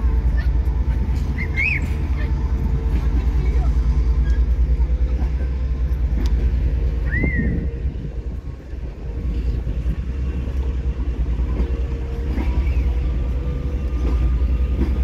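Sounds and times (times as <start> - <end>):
diesel locomotive and coaches rumbling: 0.0 - 15.0.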